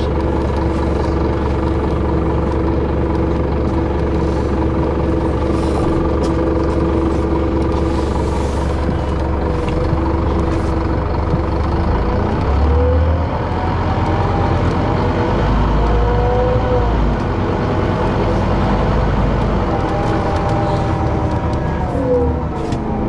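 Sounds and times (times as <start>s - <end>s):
bus engine drone: 0.0s - 23.0s
road noise: 0.0s - 23.0s.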